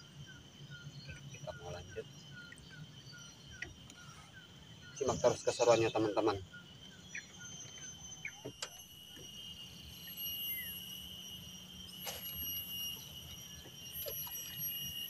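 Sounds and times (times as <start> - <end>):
bird chirps: 0.0 - 15.0
insects droning: 0.0 - 15.0.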